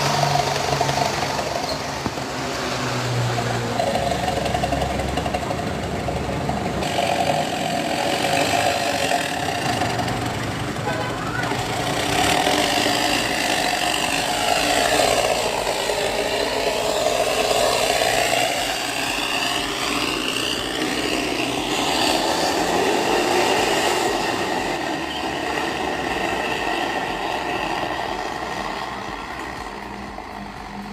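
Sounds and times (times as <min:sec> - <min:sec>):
engine revving through exhaust: 0:00.0 - 0:30.9.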